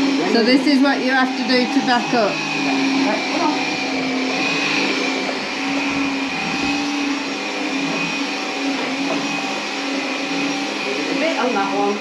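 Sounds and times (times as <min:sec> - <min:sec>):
vacuum cleaner motor running: 0:00.0 - 0:12.0.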